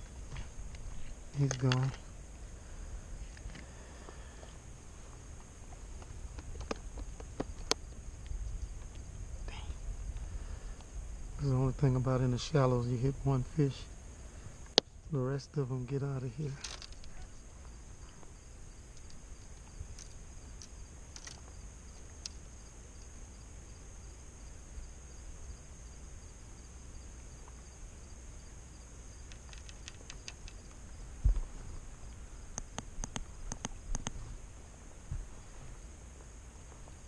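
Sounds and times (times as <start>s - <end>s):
faint low rumble: 0.0s - 37.0s
night insects chorus: 0.0s - 37.0s.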